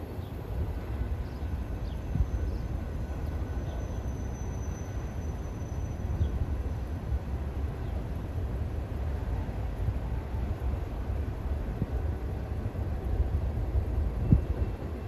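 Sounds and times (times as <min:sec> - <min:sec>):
distant freight train rumbling: 0:00.0 - 0:15.0.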